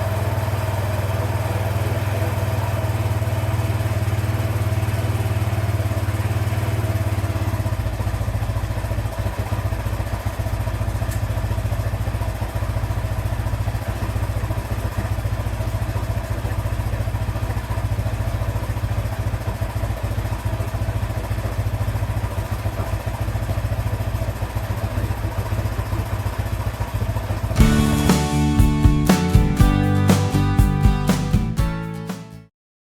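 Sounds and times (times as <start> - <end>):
atv engine idling: 0.0 - 30.2.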